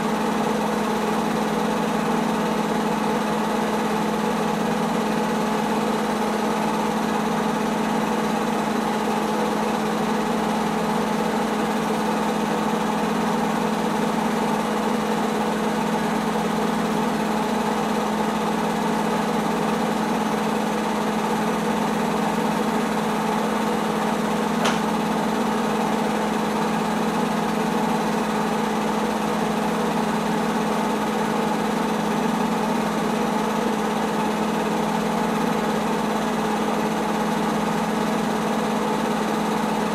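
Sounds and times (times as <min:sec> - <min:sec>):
film projector motor hum: 0:00.0 - 0:39.9.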